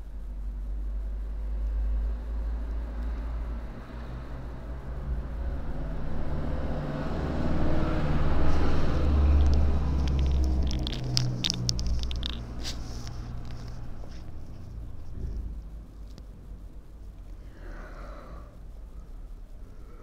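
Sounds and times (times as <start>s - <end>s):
low rumble with engine hum: 0.0s - 20.0s.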